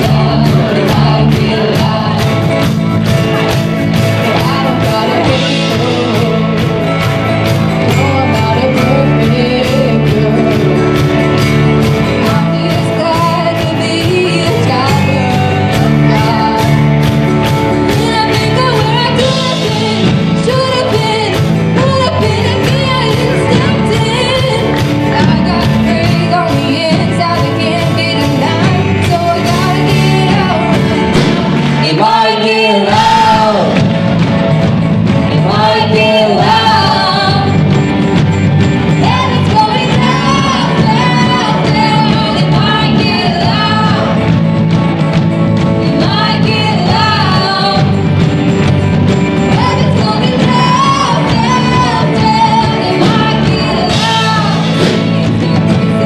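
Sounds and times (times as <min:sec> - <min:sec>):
drums: 0:00.0 - 0:56.0
electric and acoustic guitars: 0:00.0 - 0:56.0
group of singers: 0:00.0 - 0:56.0
keyboard: 0:00.0 - 0:56.0.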